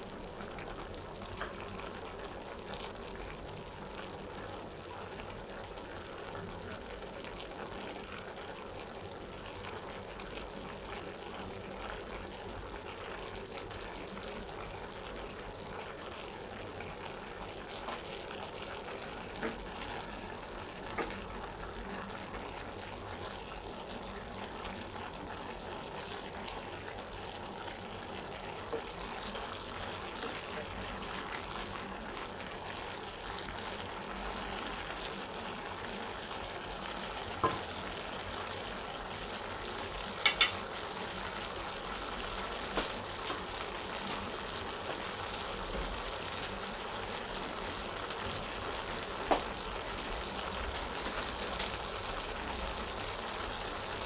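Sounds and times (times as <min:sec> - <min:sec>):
food sizzling and bubbling: 0:00.0 - 0:54.0.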